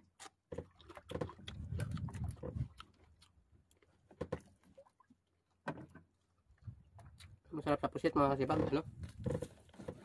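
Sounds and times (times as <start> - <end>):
person chewing wetly: 0.0 - 7.5, 8.9 - 9.6.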